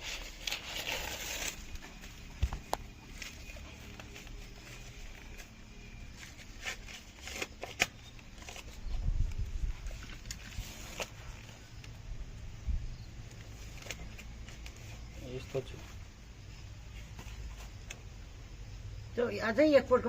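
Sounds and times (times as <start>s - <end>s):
dry leaves and husks rustling: 0.0s - 16.2s.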